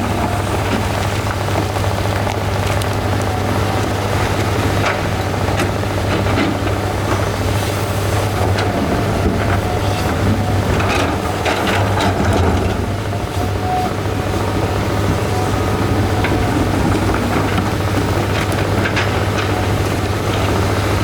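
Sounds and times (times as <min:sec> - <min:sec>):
diesel excavator engine: 0:00.0 - 0:21.0.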